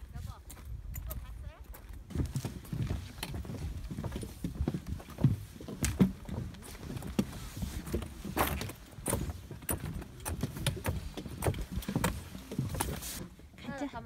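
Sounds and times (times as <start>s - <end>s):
footsteps on wooden stairs: 0.4s - 13.8s.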